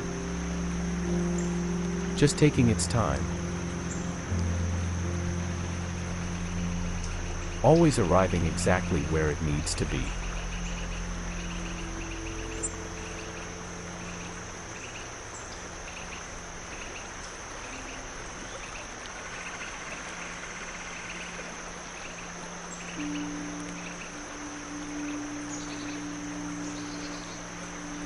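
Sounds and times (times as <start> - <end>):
crickets chirping: 0.0 - 28.0
flowing water hiss: 0.0 - 28.0
high insect whine: 0.0 - 28.0
low steady hum: 0.0 - 28.0.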